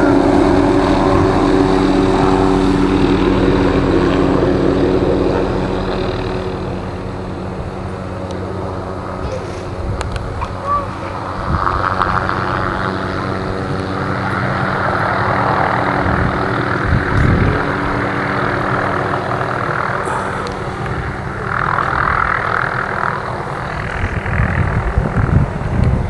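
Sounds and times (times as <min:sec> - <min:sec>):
engine drone: 0:00.0 - 0:26.0
wind buffeting microphone: 0:00.0 - 0:26.0.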